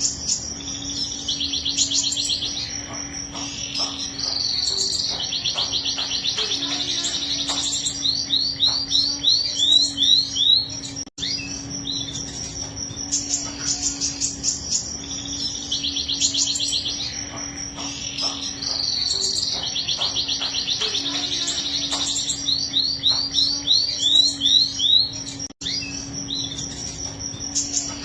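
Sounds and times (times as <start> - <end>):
canary singing trills: 0.0 - 28.0.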